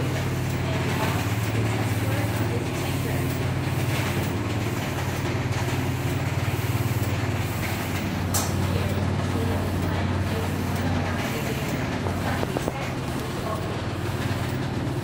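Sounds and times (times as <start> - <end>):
printer machine hum: 0.0 - 15.0.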